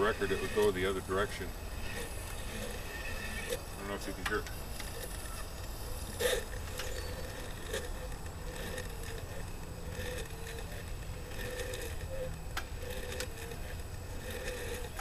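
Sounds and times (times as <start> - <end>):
record playing backwards: 0.0 - 15.0
scratchy clicks: 0.0 - 15.0.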